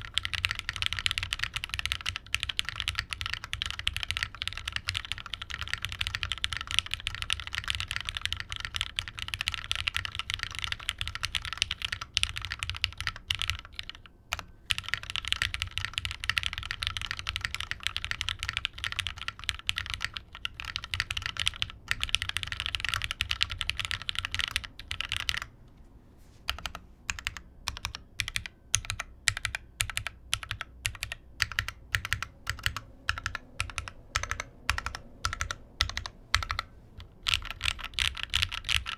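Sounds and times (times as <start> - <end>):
typing on mechanical keyboard: 0.0 - 25.6, 26.5 - 38.9.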